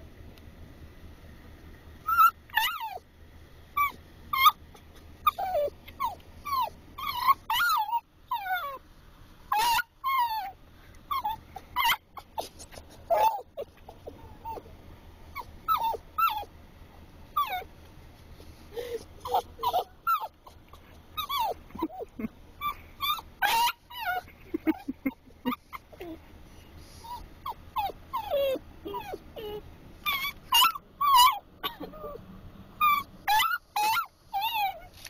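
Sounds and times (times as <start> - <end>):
dog whining and whimpering: 2.0 - 3.1, 3.8 - 8.8, 9.5 - 14.7, 15.3 - 16.5, 17.3 - 17.7, 18.7 - 26.3, 26.9 - 32.2, 32.8 - 35.0.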